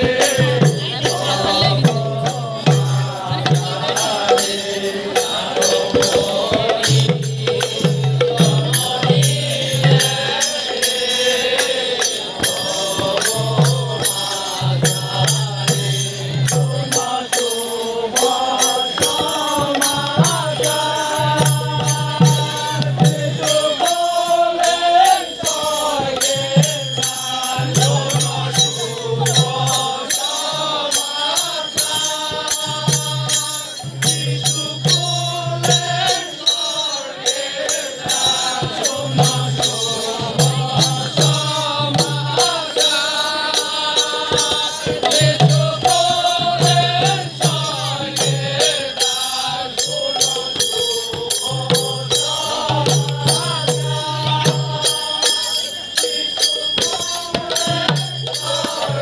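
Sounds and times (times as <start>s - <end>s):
group singing a chant: 0.0s - 59.0s
hand drums beating a rhythm: 0.0s - 59.0s
jingling metal percussion: 0.0s - 59.0s.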